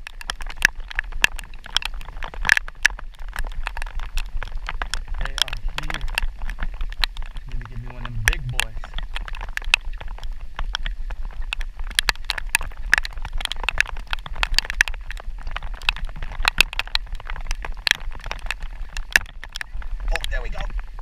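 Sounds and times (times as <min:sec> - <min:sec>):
raindrops tapping on gear: 0:00.0 - 0:21.0
wind buffeting microphone: 0:01.1 - 0:21.0.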